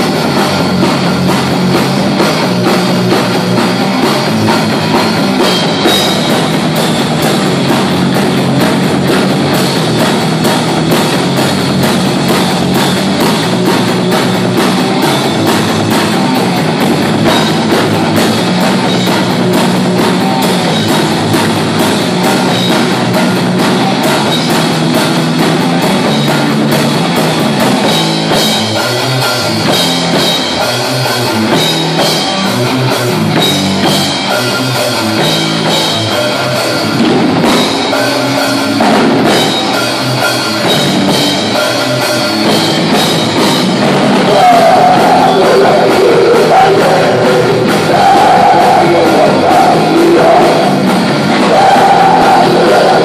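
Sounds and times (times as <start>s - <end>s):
bass guitar: 0.0s - 53.0s
distorted electric guitars: 0.0s - 53.0s
drum kit: 0.0s - 53.0s.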